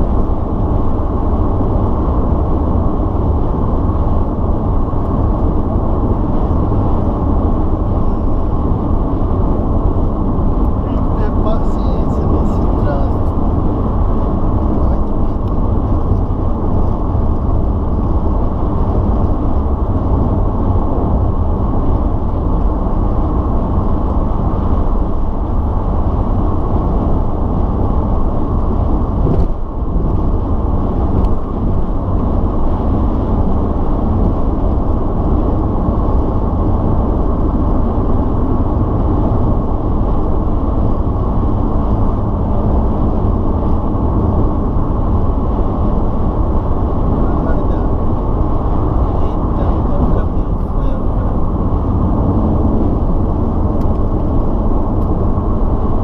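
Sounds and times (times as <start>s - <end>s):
car engine and tyres droning: 0.0s - 56.0s.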